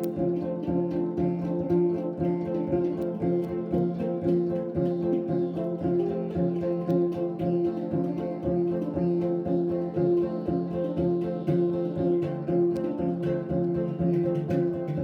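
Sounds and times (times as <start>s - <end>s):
plucked strings repeating notes: 0.0s - 15.0s.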